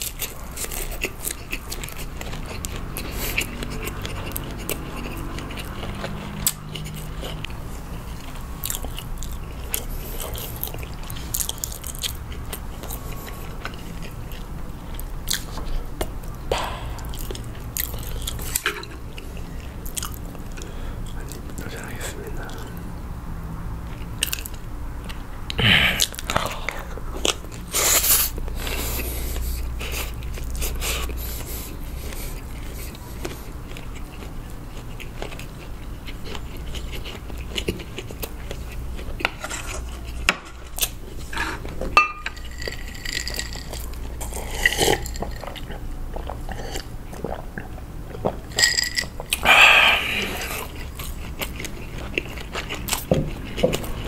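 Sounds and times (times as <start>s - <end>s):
wet chewing sounds: 0.0s - 23.0s, 23.6s - 54.0s.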